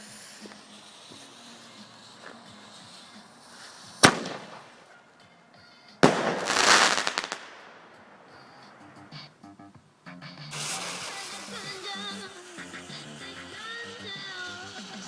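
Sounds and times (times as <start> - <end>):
fireworks banging: 0.0 - 5.0, 6.0 - 9.1, 10.5 - 15.0
fireworks crackling: 0.0 - 5.1, 5.8 - 9.1, 10.5 - 15.0.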